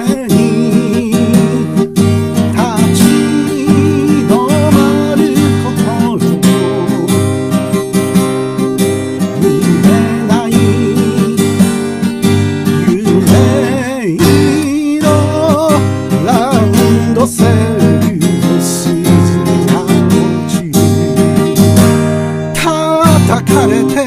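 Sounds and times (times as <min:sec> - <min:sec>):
person singing: 0:00.0 - 0:24.0
strummed acoustic guitar: 0:00.0 - 0:24.0.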